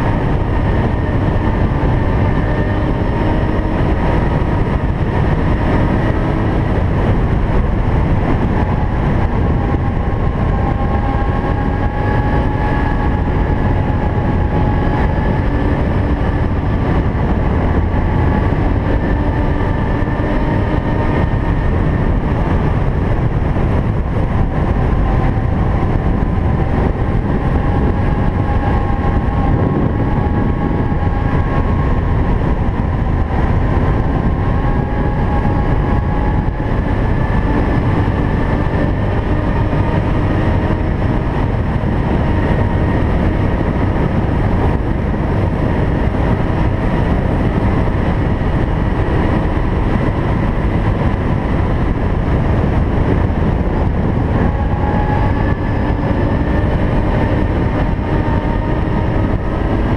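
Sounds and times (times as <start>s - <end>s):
quad engine whining: 0.0s - 59.9s
wind and tyres on gravel: 0.0s - 59.9s.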